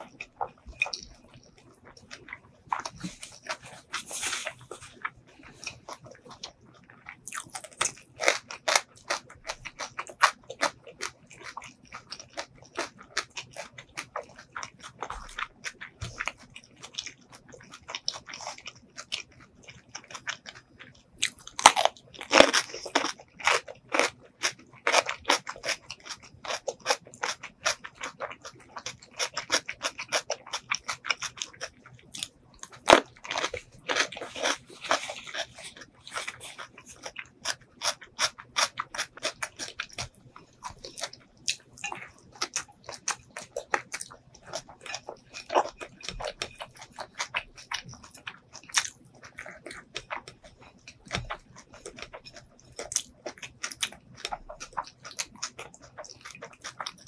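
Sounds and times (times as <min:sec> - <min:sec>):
mouth chewing crunchy food: 0:00.0 - 0:57.0.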